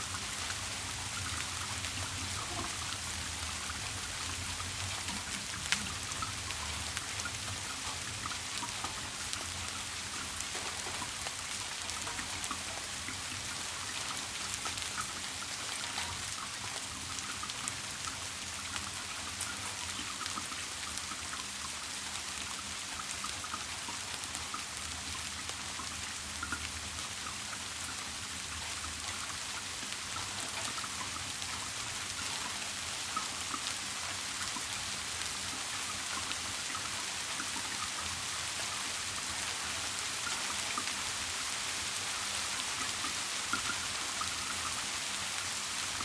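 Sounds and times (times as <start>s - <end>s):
rain pattering: 0.0s - 46.0s.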